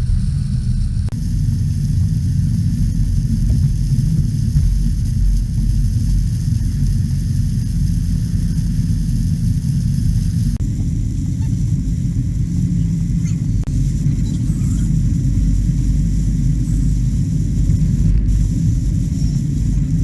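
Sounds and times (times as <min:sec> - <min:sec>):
car road and wind rumble: 0:00.0 - 0:20.0.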